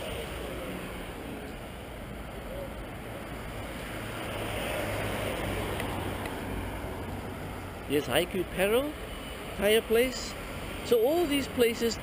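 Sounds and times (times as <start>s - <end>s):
heavy road traffic rumble: 0.0s - 12.0s.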